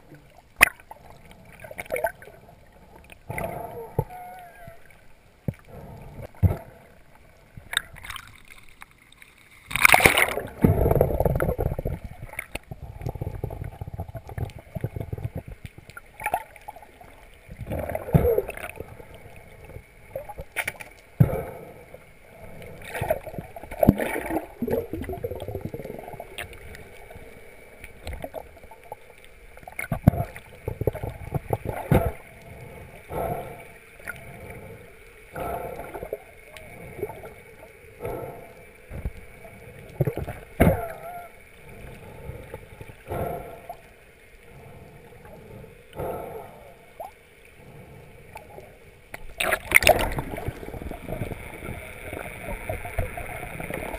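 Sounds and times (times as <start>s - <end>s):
underwater swishing and gurgling: 0.0s - 53.9s.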